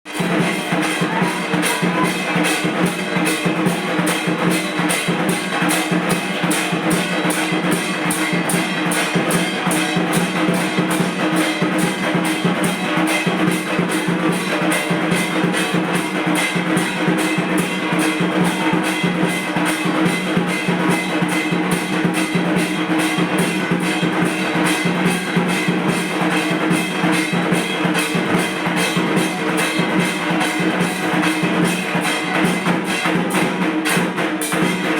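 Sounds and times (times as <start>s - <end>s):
barrel drum beaten fast: 0.1s - 34.9s.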